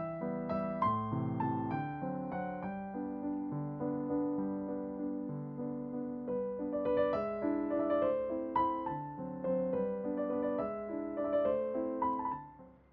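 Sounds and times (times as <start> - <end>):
gentle piano music: 0.0 - 12.9.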